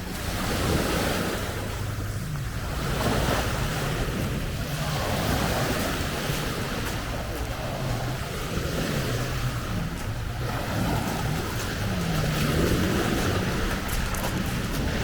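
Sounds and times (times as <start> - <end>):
sea waves washing ashore: 0.0 - 15.0
wind on microphone: 0.0 - 15.0.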